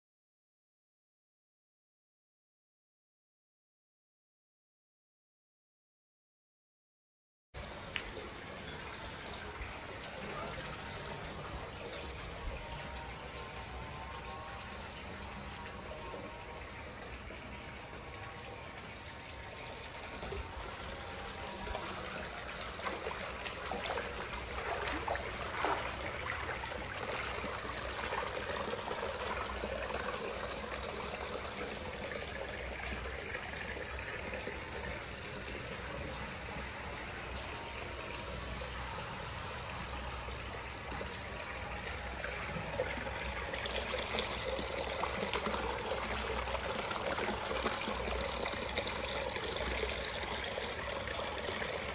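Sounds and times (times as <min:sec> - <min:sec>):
water pouring into a bath: 0:07.6 - 0:51.9.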